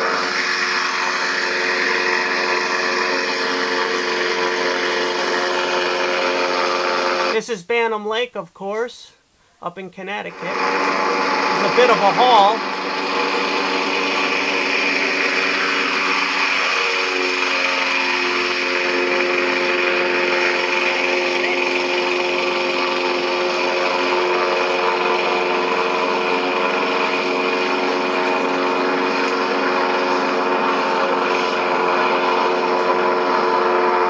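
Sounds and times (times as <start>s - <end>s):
small propeller engine droning: 0.0s - 7.3s, 10.3s - 34.0s.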